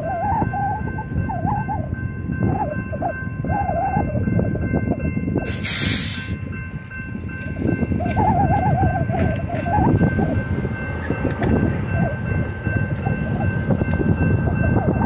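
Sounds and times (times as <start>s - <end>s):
railroad crossing bell: 0.0s - 15.0s.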